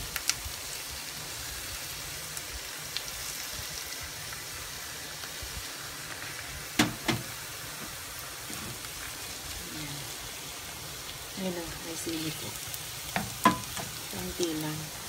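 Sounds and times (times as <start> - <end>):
meat sizzling in a hot pan: 0.0 - 15.0.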